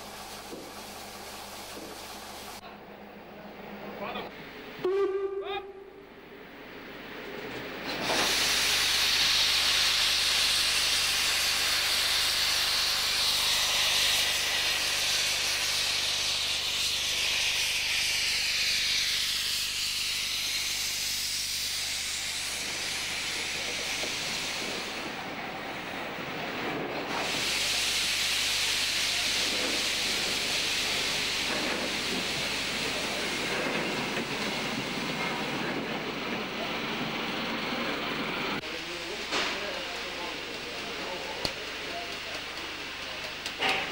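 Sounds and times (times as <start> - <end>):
steam hissing: 0.0 - 2.6, 6.7 - 43.9.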